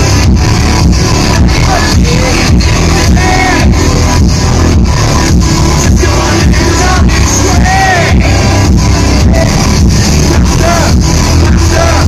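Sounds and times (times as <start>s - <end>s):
drums steady beat: 0.0s - 12.0s.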